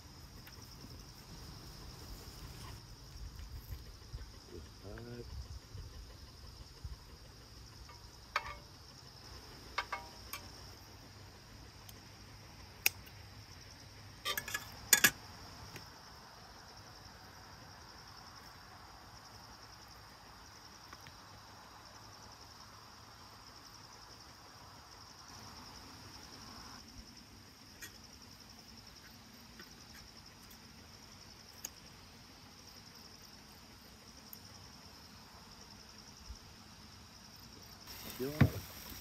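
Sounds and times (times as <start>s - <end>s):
insect chorus: 0.0s - 39.0s.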